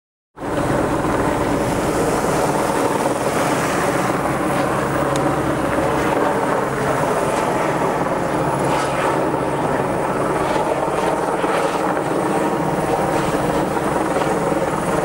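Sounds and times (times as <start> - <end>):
helicopter flying overhead: 0.4 - 15.0.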